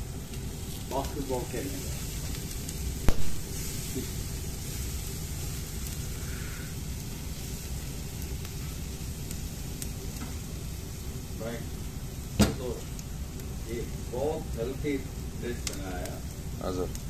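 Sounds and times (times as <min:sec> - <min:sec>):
fire rumble: 0:00.0 - 0:17.0
meat sizzling on a grill: 0:00.0 - 0:17.0.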